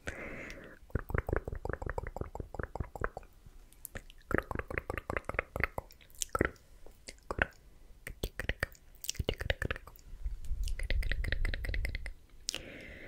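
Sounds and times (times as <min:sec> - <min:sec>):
tongue and lip clicks: 0:00.5 - 0:12.7.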